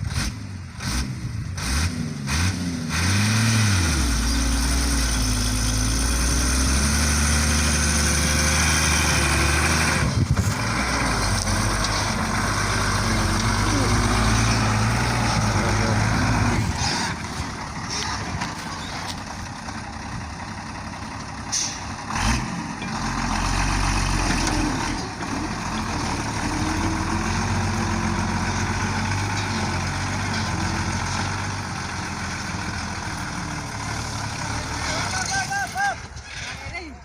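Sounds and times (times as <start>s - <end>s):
heavy truck engine running: 0.0s - 36.5s.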